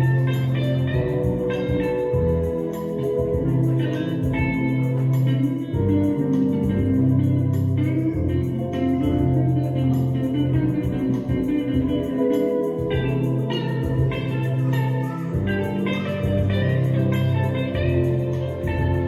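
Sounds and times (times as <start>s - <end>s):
bass line: 0.0s - 19.0s
light percussion: 0.0s - 19.0s
plucked guitar notes: 0.0s - 19.0s.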